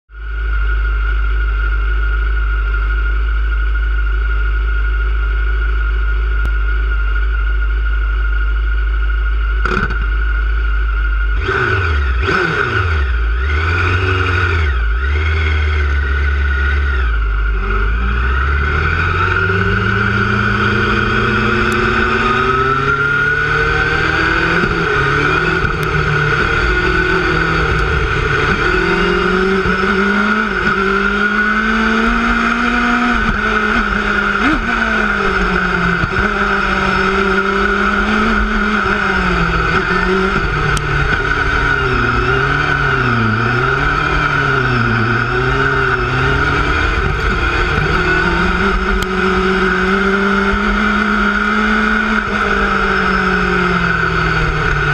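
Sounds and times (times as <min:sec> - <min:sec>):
race car engine revving: 0:00.1 - 0:54.9
steady high whine: 0:00.1 - 0:54.9.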